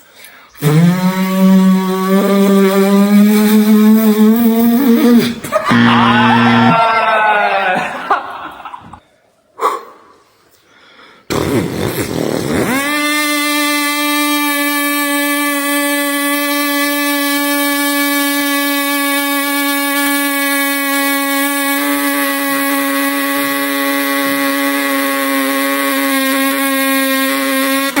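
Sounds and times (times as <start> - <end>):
beatboxer buzzing vocal drone: 0.6 - 9.0, 11.3 - 28.0.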